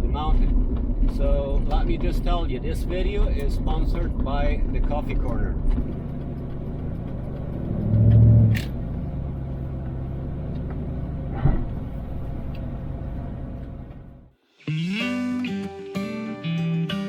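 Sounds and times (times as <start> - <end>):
vehicle rumble from inside: 0.0 - 14.4.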